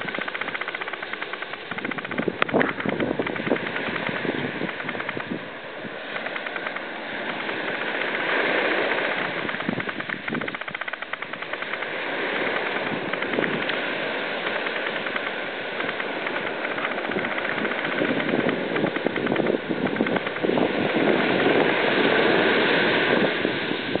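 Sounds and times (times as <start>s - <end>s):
ocean surf washing up beach: 0.0s - 24.0s
wind buffeting microphone: 0.0s - 24.0s.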